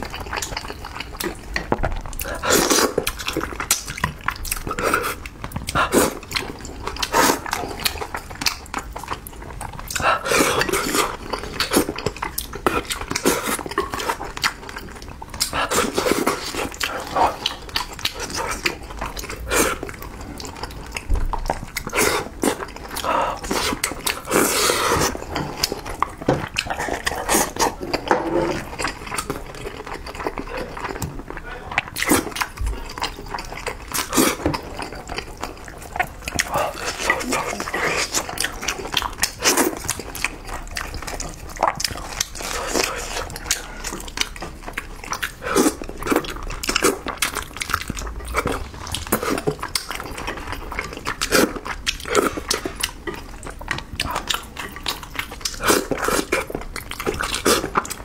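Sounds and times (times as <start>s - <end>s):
smacking chewing and slurping: 0.0s - 58.0s.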